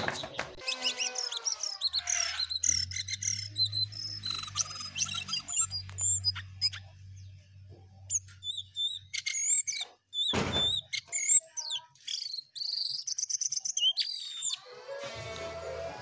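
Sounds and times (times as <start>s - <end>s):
songbird singing: 0.0s - 14.7s.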